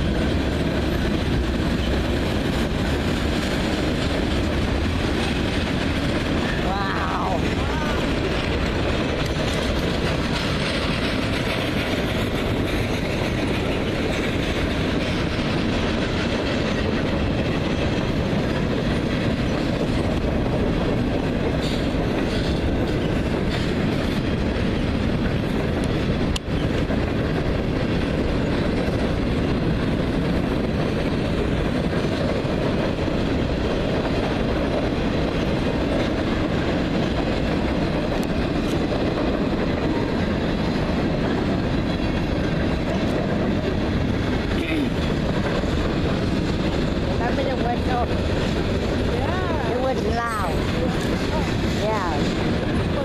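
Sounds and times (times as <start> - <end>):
freight train passing: 0.0 - 53.0.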